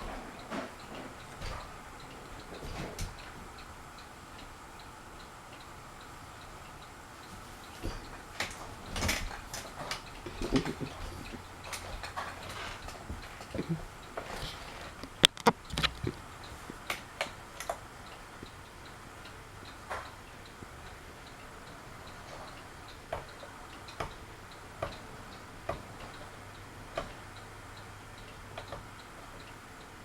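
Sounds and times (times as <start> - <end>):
ceiling fan sharp clicks: 0.0 - 30.0
ceiling fan ticking: 0.0 - 30.0.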